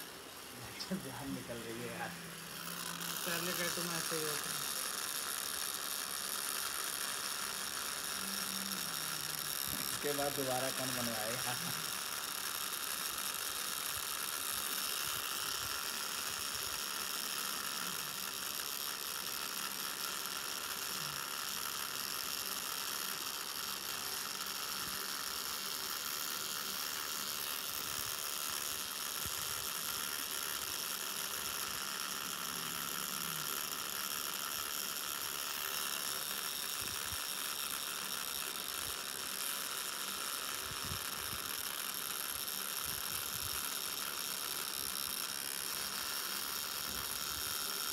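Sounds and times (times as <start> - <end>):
tattoo machine buzzing: 0.0 - 47.9.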